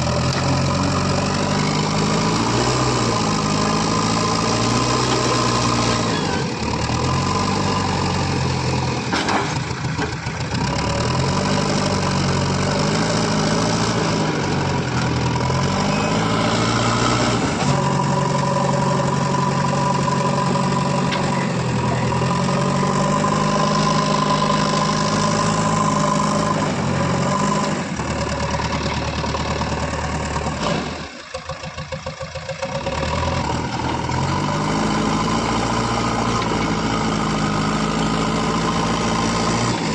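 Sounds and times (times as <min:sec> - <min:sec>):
earthmoving machine diesel engine: 0:00.0 - 0:39.9.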